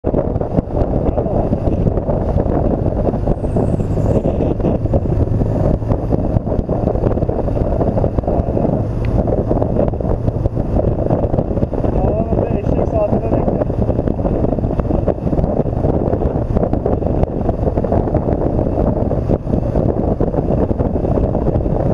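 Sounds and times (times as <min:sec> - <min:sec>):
motorcycle engine drone: 0:00.0 - 0:21.9
wind buffeting microphone: 0:00.0 - 0:21.9.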